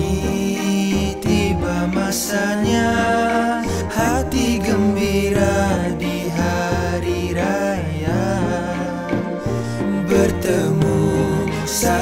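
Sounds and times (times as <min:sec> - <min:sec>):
men singing together: 0:00.0 - 0:12.0
orchestral accompaniment: 0:00.0 - 0:12.0.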